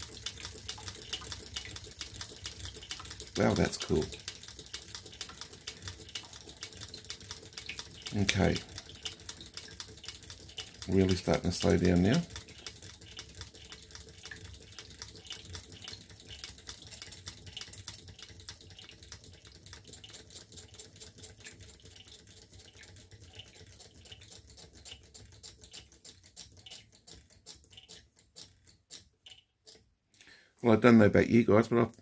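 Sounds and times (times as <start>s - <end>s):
engine mechanism clicking: 0.0s - 29.8s
water trickling: 0.0s - 29.8s.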